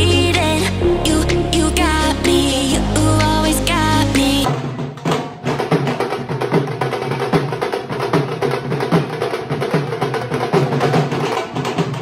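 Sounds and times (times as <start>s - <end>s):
music with steady drum beat: 0.0s - 12.0s.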